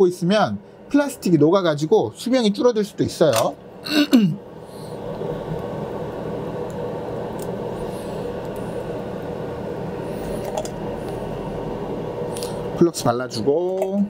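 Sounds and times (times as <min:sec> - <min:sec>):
extractor fan whirring: 0:00.0 - 0:14.0.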